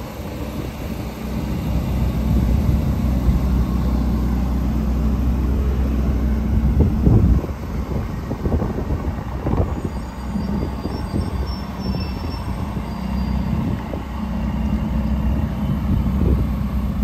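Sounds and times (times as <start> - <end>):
car engine idling: 0.0 - 12.8, 13.5 - 17.0.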